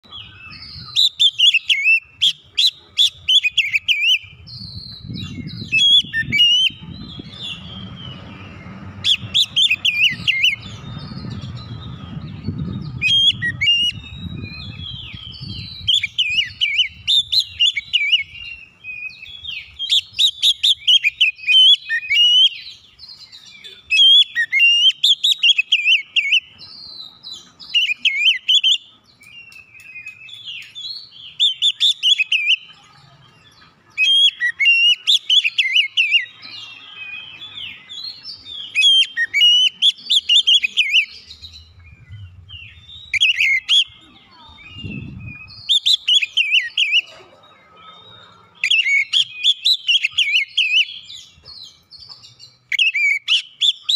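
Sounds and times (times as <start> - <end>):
bird singing: 0.0 - 53.9.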